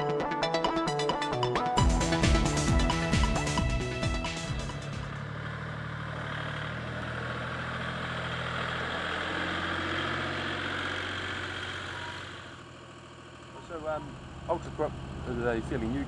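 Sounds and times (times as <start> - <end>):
wheel loader engine running: 0.6 - 16.0.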